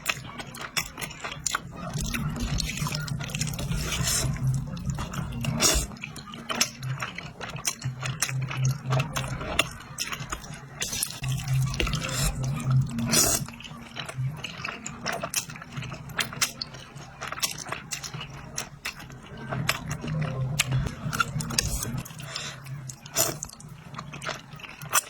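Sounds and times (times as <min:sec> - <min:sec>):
slurping and chewing noodles: 0:00.0 - 0:25.0.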